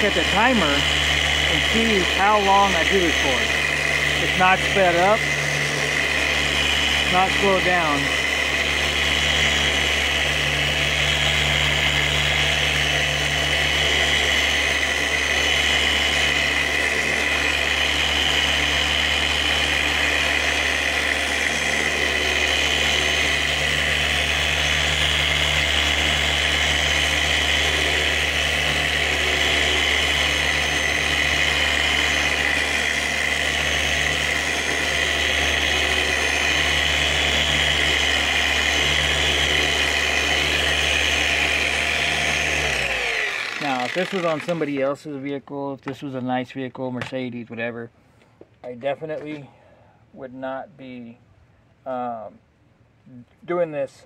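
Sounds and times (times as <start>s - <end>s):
electric polisher sanding plastic: 0.0s - 44.9s.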